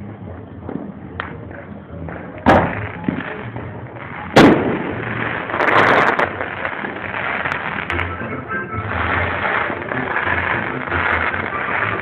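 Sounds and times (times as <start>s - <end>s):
firework crackling: 0.0s - 12.0s
firework bangs: 0.5s - 12.0s.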